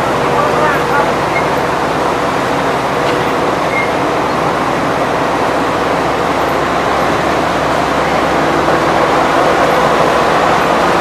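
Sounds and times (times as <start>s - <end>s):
mill machinery running: 0.0s - 11.0s.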